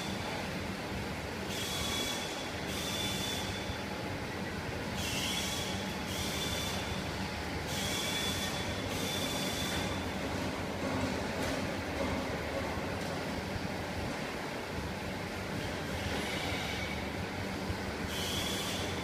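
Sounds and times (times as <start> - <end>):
washing machine hum: 0.0 - 19.0.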